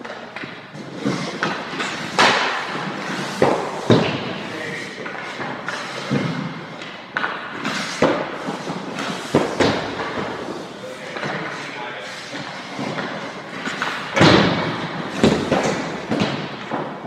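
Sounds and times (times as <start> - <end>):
hockey pucks striking goalie pads: 0.0 - 17.0.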